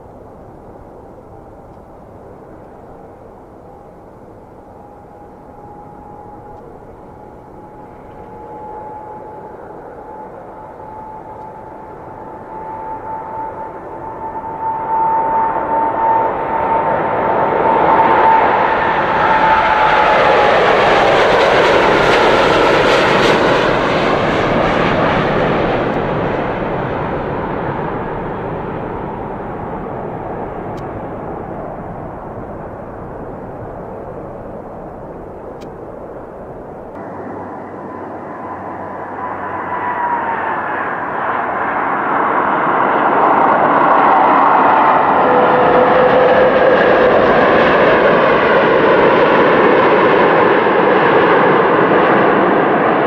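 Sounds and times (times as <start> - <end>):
airplane engines roaring: 0.0 - 53.0.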